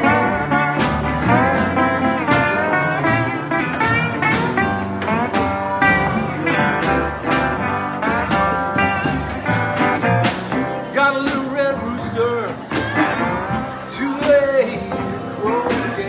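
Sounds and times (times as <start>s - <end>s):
drum kit with cymbals: 0.0s - 16.0s
piano: 0.0s - 16.0s
resonator guitar sliding notes: 0.0s - 16.0s.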